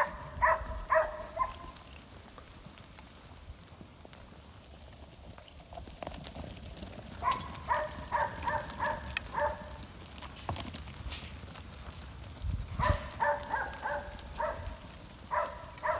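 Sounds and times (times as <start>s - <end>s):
hooves trotting on dirt: 0.0s - 15.9s.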